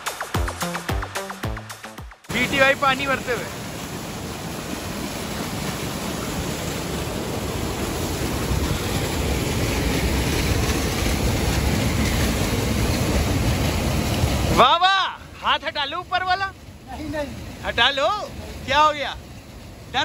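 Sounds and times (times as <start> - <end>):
waterfall and stream rushing: 0.0 - 20.0.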